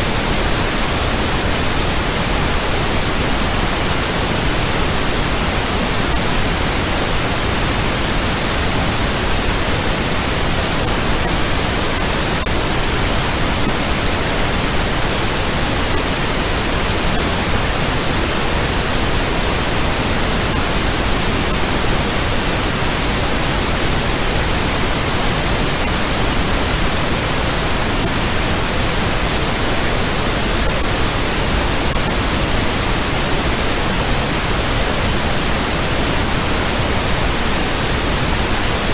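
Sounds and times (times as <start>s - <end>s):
loud steady noise hiss: 0.0s - 38.9s.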